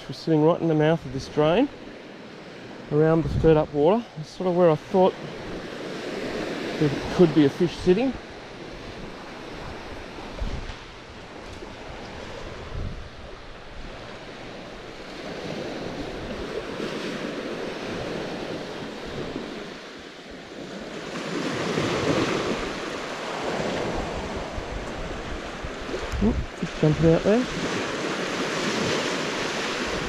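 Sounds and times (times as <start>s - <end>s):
surf washing onto sand beach: 0.0s - 30.0s.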